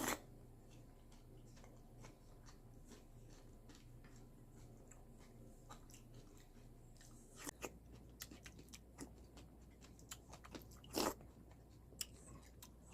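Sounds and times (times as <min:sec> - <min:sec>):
person chewing crunchy cereal: 0:00.0 - 0:12.9.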